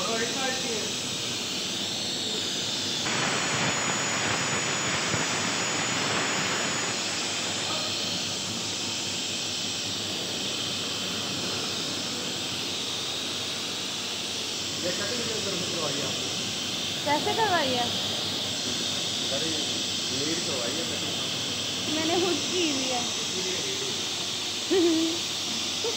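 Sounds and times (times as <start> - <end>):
saw blade whine cutting wood: 0.0 - 25.9.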